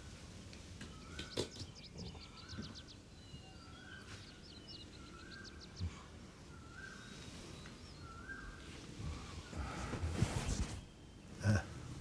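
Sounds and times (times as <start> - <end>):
faint bird chirps and warbling: 0.8 - 12.0.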